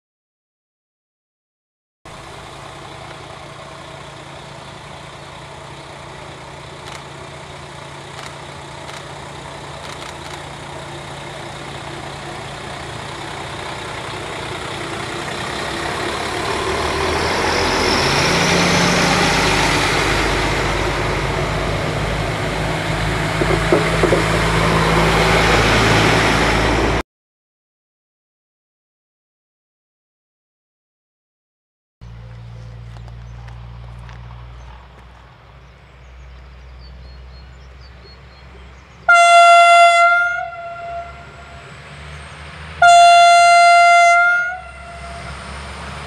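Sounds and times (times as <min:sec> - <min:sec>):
diesel train passing: 0:02.1 - 0:27.0, 0:32.0 - 0:46.0.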